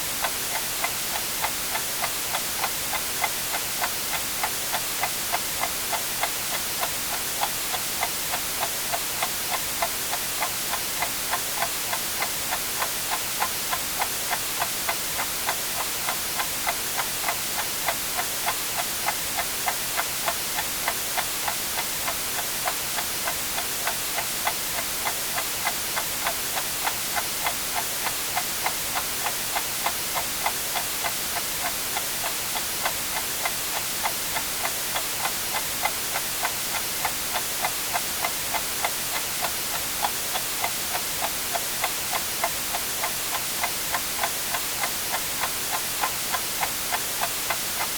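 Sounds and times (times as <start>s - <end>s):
white noise hiss: 0.0s - 47.9s
clock ticking: 0.2s - 47.9s.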